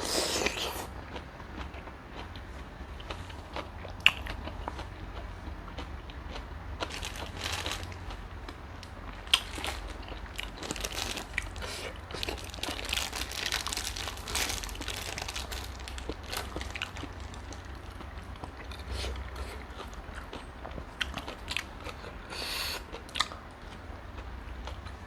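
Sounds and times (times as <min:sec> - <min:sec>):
person crunching and chewing: 0:00.0 - 0:25.0.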